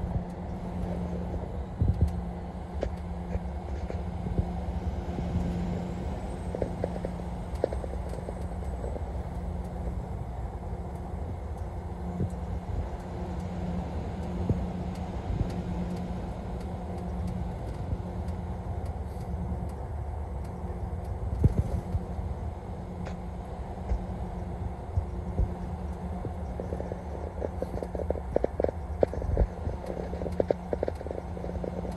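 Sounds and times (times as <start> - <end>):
vehicle driving rumble: 0.0 - 31.9.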